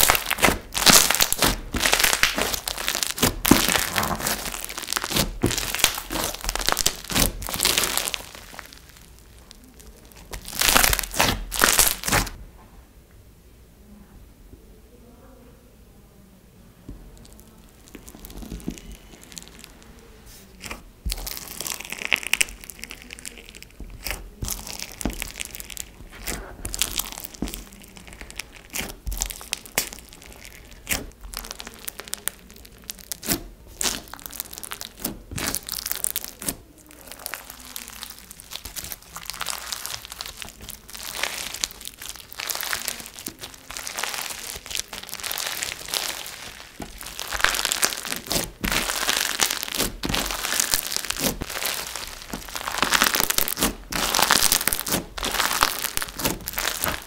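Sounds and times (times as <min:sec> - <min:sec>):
slime crackling and popping: 0:00.0 - 0:12.4, 0:16.9 - 0:57.0.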